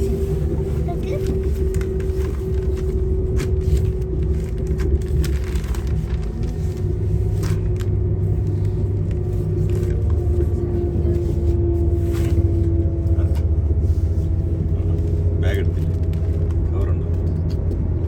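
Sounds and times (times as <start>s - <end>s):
train engine hum: 0.0s - 18.0s
train rumble: 0.0s - 18.0s.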